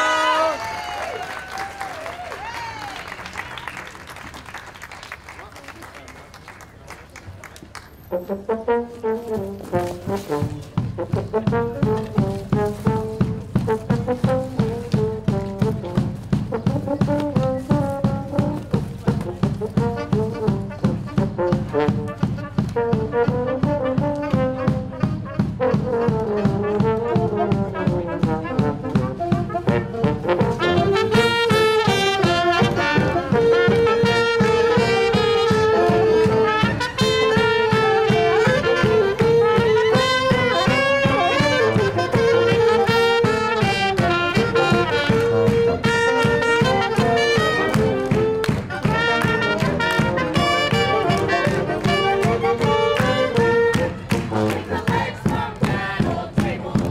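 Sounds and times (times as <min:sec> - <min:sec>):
saxophone and brass horns: 0:00.0 - 0:04.1, 0:07.8 - 0:56.9
bass drum beat: 0:09.7 - 0:56.9.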